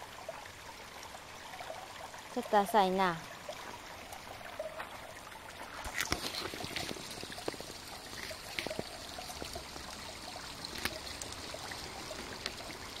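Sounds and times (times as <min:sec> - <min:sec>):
trickling water: 0:00.0 - 0:13.0.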